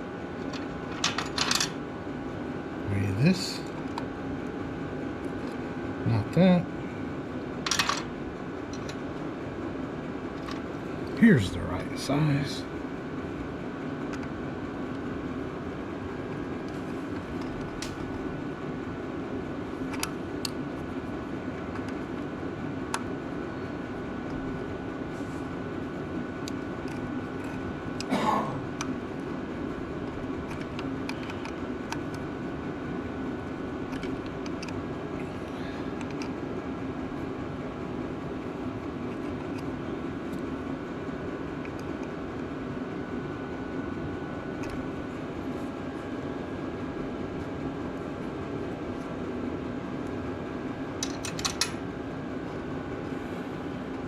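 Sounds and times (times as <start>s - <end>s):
fan-like hum: 0.0s - 54.0s.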